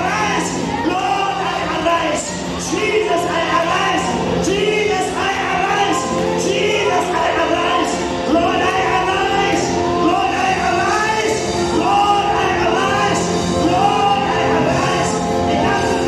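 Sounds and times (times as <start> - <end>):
keyboard accompaniment: 0.0 - 16.0
man singing into microphone: 2.7 - 16.0.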